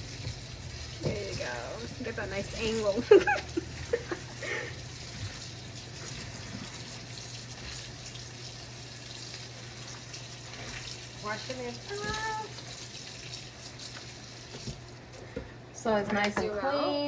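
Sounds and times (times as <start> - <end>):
tap water running over lettuce: 0.0 - 15.6.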